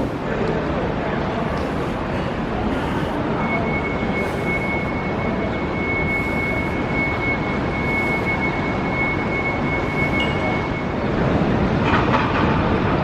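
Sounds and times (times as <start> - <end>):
thin high whine: 1.0 - 11.6.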